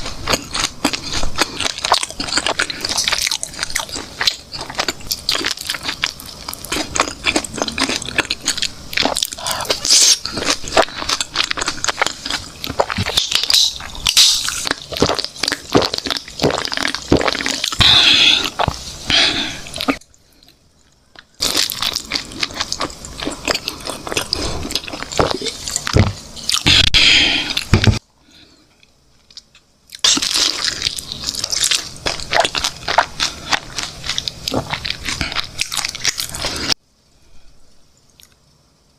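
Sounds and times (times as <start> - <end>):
chewing crunchy chicken: 0.0 - 28.0, 29.3 - 36.8.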